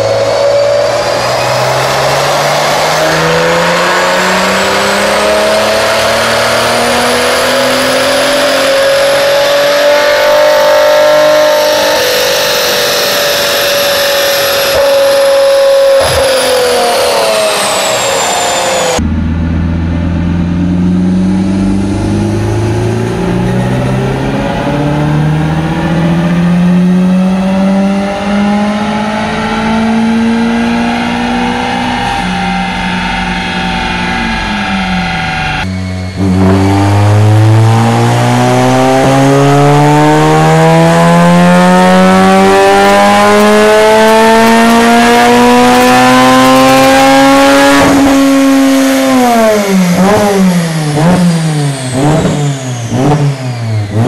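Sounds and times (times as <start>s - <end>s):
car engine at full throttle: 0.0s - 54.0s
car engine revving on dyno: 0.0s - 54.0s.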